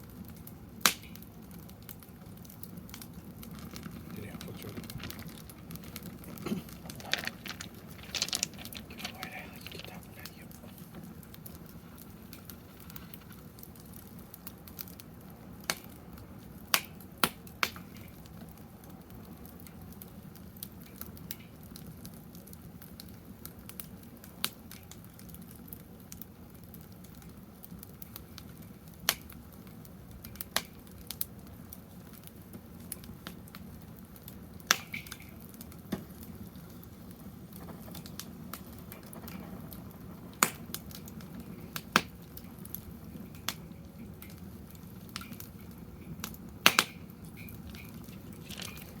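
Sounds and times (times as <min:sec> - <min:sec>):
firewood crackling and popping: 0:00.0 - 0:49.0
low steady rush of fire: 0:00.0 - 0:49.0.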